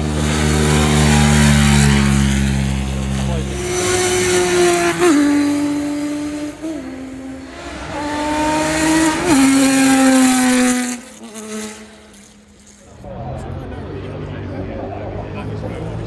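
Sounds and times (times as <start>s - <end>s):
rally cars driving past: 0.0s - 16.0s.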